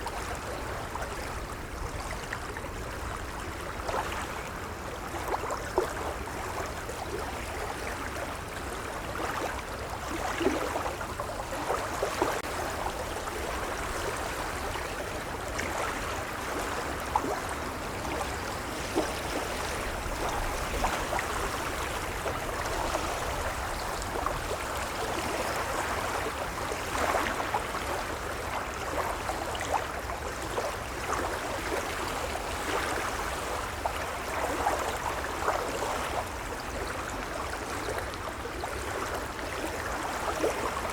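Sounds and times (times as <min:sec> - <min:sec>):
small water splashes: 0:00.0 - 0:40.9
waves lapping at shore: 0:00.0 - 0:40.9.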